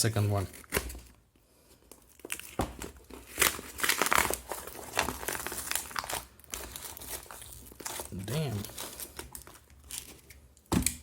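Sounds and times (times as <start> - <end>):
packaging crinkling and tearing: 0.1 - 10.7.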